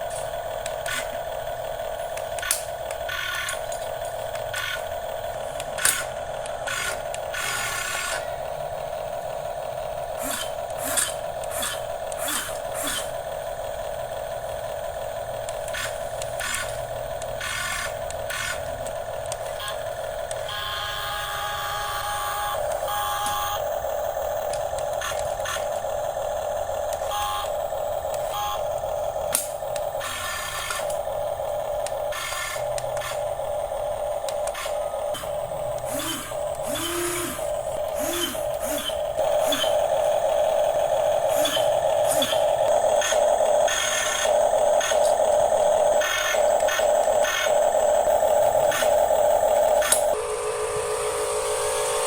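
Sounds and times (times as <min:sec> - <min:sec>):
small electric motors whining: 0:00.0 - 0:52.0.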